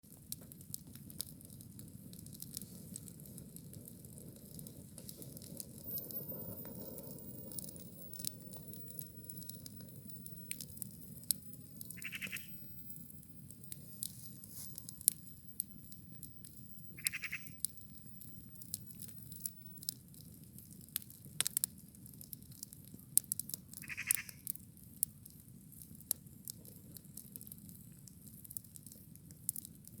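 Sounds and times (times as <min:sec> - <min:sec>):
campfire flames crackling: 0:00.0 - 0:30.0.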